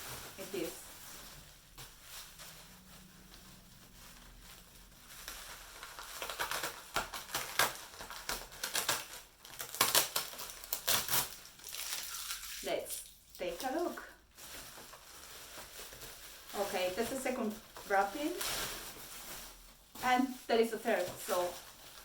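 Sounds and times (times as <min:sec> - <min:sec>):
packaging wrap rustling and crackling: 0:00.0 - 0:22.0.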